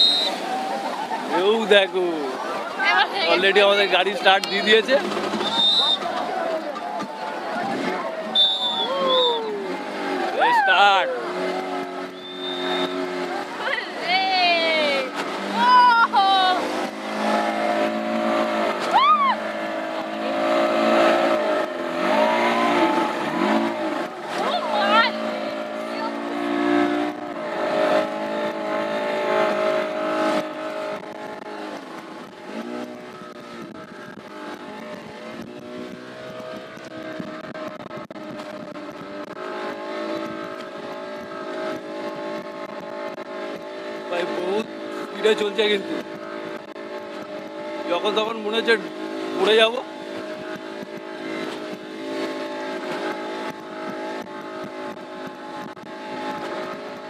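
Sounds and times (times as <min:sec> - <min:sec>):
wind and water rushing: 0:00.0 - 0:12.1, 0:13.0 - 0:57.0
outboard engine running at speed: 0:00.0 - 0:57.0.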